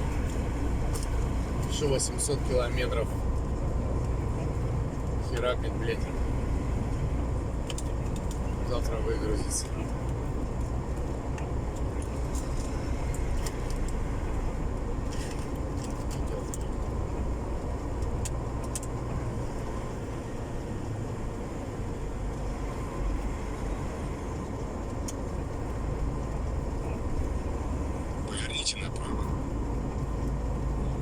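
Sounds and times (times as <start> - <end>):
road noise: 0.0 - 31.0
truck engine rumbling: 0.0 - 31.0.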